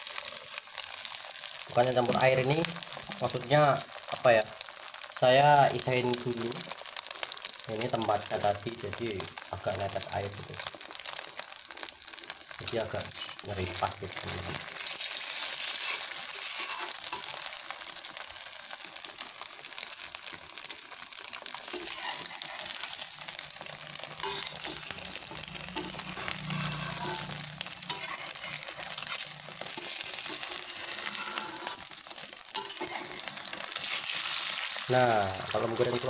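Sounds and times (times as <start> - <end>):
egg frying in hot oil: 0.0 - 36.0.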